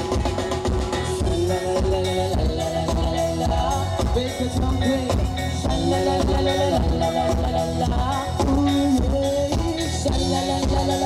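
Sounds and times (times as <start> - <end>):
loud music with drums: 0.0 - 11.0.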